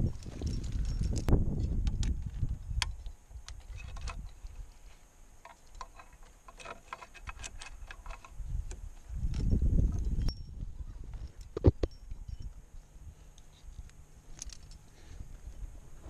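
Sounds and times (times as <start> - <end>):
climbing gear clinking: 0.0 - 4.8, 5.4 - 8.5, 9.1 - 15.6.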